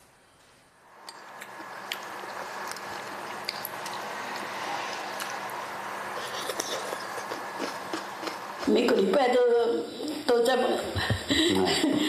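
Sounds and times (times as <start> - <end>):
steady room hiss: 0.0 - 12.0.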